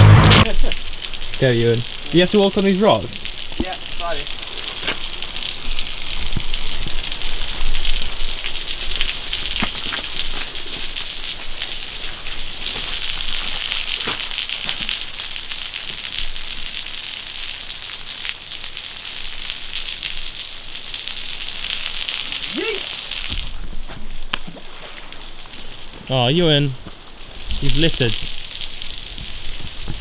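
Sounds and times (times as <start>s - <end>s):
water spattering on rock: 0.3s - 20.4s, 21.0s - 30.0s.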